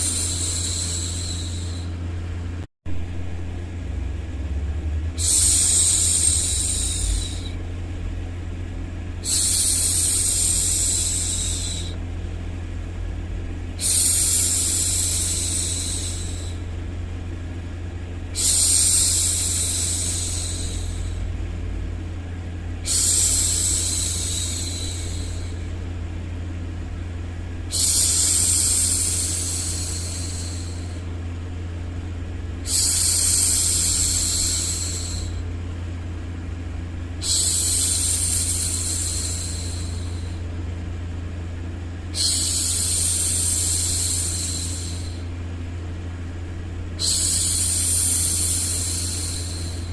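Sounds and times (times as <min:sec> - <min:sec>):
low rumbling white noise: 0:00.0 - 0:49.9.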